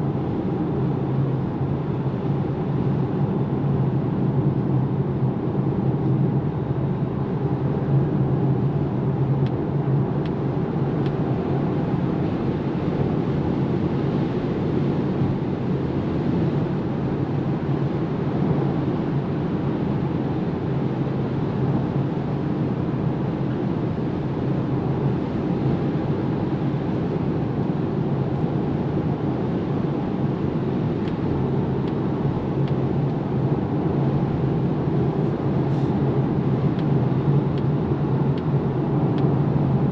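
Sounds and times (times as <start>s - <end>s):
road and wind noise in car: 0.0s - 39.9s.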